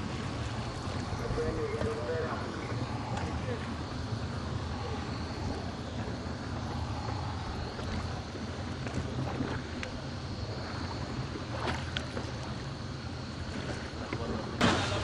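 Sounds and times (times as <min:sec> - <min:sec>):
boat engine rumbling: 0:00.0 - 0:15.0
water noise: 0:00.0 - 0:15.0
wind: 0:00.0 - 0:15.0.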